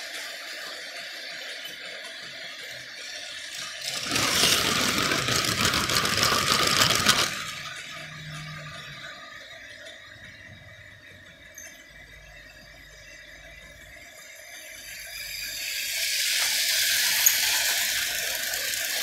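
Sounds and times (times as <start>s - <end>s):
toy train wheels rattling on track: 0.0s - 19.0s.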